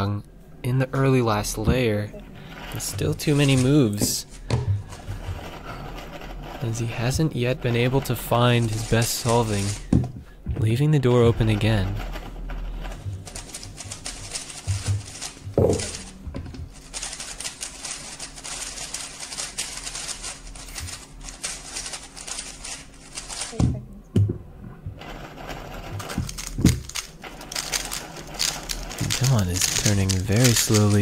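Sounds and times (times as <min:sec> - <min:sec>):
puzzle cube clicking and rattling: 0:02.6 - 0:09.9, 0:11.3 - 0:23.6, 0:25.0 - 0:31.0.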